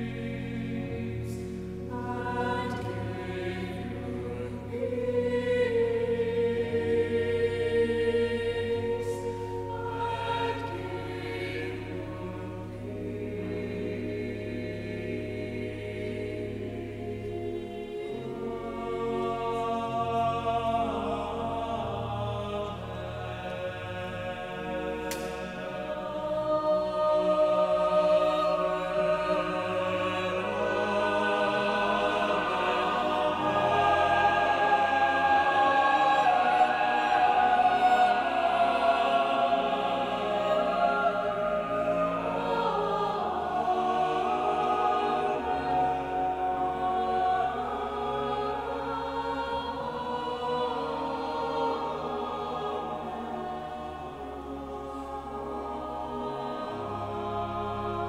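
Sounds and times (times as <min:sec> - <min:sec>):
mixed choir singing sacred music: 0:00.0 - 0:58.0.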